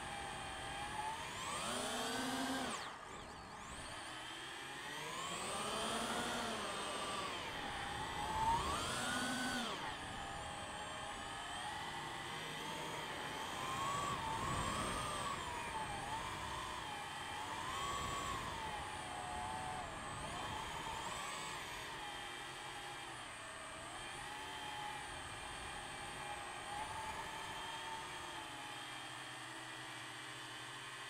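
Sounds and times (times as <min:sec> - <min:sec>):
drone propellers whining: 0:00.0 - 0:28.4.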